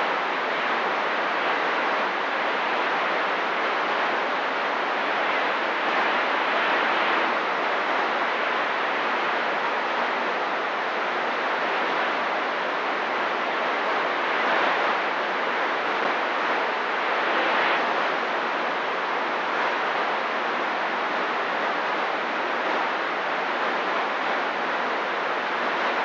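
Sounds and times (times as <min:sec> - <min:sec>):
radio static hiss: 0:00.0 - 0:26.0.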